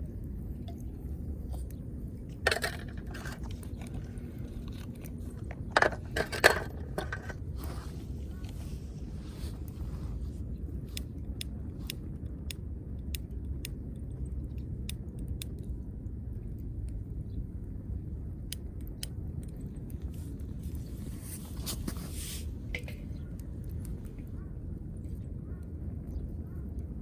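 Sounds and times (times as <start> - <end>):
low steady rumble: 0.0 - 27.0.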